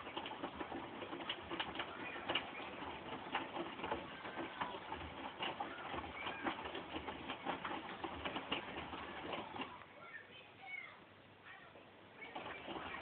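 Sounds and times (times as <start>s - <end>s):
laundry clicks and knocks: 0.0s - 9.8s, 12.2s - 13.0s
washing machine drum tumbling: 0.0s - 9.8s, 12.2s - 13.0s.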